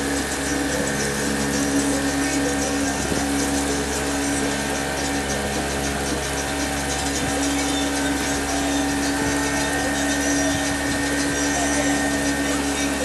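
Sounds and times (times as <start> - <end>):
boat motor drone: 0.0 - 13.0.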